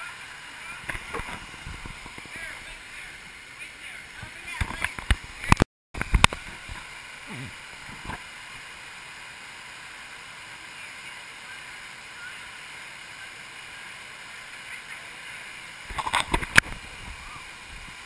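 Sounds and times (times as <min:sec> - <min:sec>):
waterfall rushing into pool: 0:00.0 - 0:18.0.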